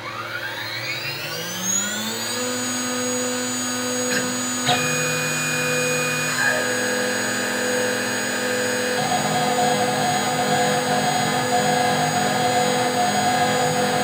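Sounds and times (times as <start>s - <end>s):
axis motors tone: 0.0s - 14.0s
router spindle motor whine: 0.0s - 14.0s.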